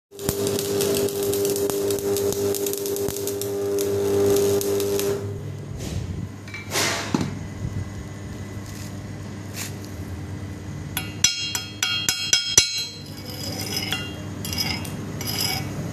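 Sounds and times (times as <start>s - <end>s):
welding arc crackling: 0.1s - 7.1s, 8.1s - 15.9s.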